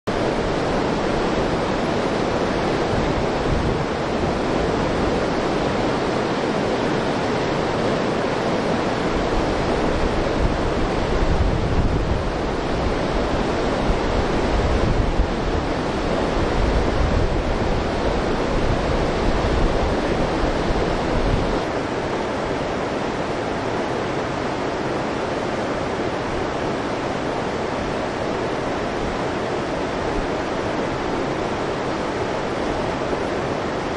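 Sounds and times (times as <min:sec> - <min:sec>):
river water flowing: 0:00.1 - 0:33.9
wind buffeting microphone: 0:00.1 - 0:33.9.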